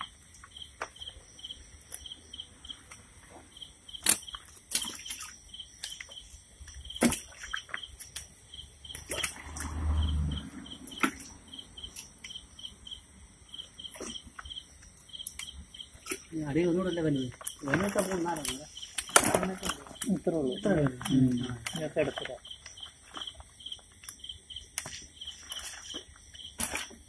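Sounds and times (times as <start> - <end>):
cricket chirping: 0.0 - 27.0
water splashing and sloshing: 0.0 - 27.0.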